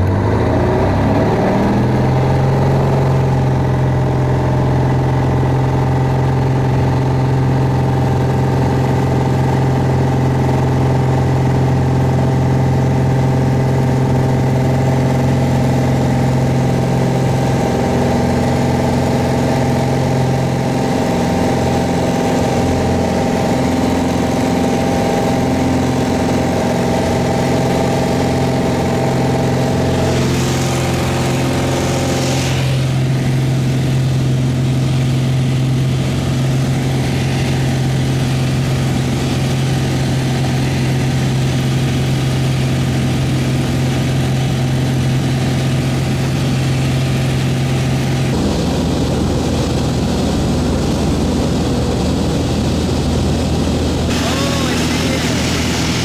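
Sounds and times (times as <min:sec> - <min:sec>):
propeller plane engine: 0:00.0 - 0:56.0.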